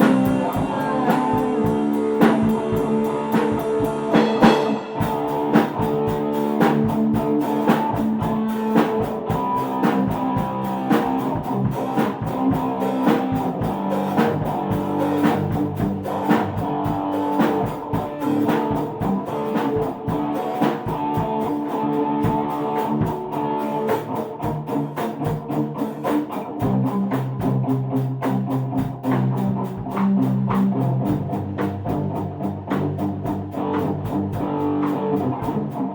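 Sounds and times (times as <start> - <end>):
rock band playing: 0.0 - 35.9.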